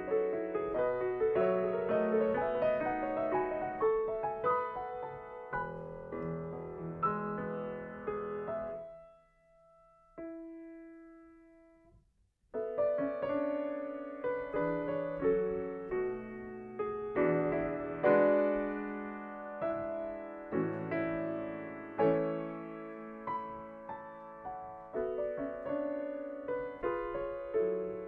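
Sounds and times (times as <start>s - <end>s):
solo grand piano: 0.0s - 28.0s.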